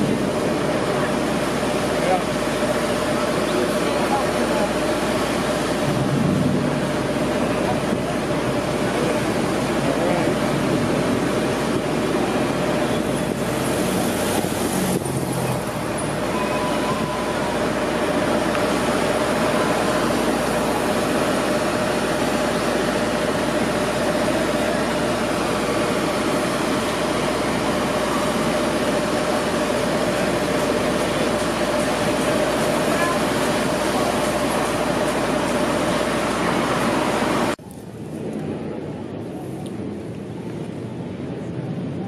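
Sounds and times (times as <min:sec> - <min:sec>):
cars and vans driving: 0:00.0 - 0:42.0
constant hum: 0:00.0 - 0:42.0.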